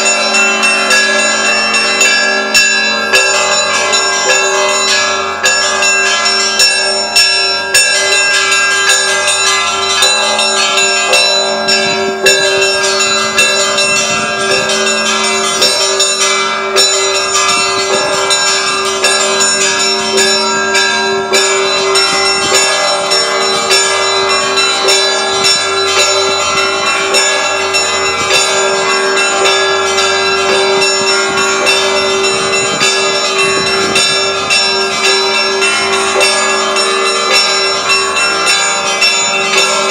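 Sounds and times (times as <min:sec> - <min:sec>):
large bell ringing: 0:00.0 - 0:39.9
small church bells pealing: 0:00.0 - 0:39.9.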